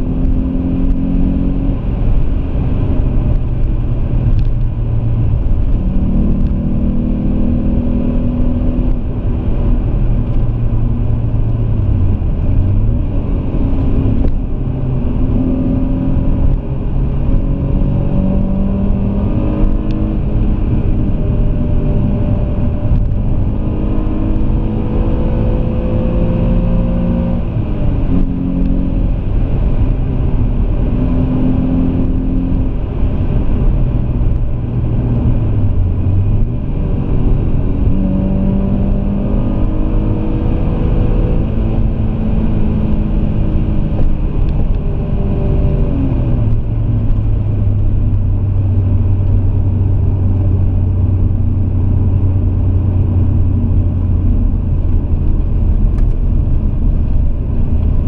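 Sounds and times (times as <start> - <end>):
car engine accelerating through gears: 0.0 - 58.0
road and tyre rumble: 0.0 - 58.0.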